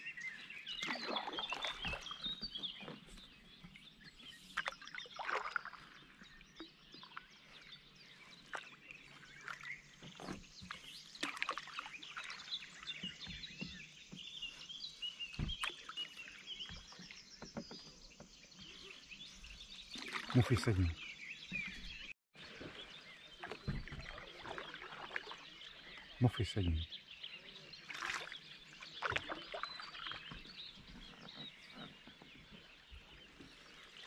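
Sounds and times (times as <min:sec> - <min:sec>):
songbirds chirping and trilling: 0:00.0 - 0:34.0
paddle knocking and splashing: 0:00.1 - 0:26.9, 0:27.8 - 0:34.0.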